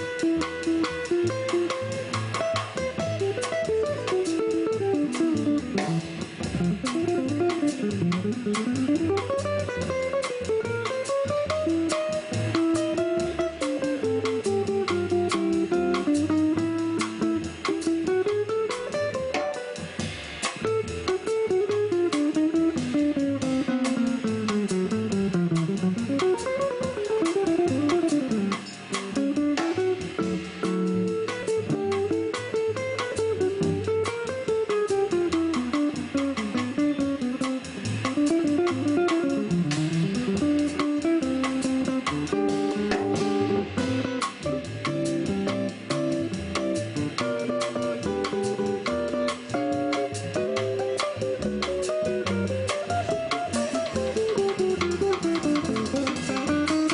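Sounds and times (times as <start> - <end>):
drum kit cymbal: 0.0 - 56.9
jazz guitar: 0.0 - 56.9
upright double bass: 0.0 - 56.9.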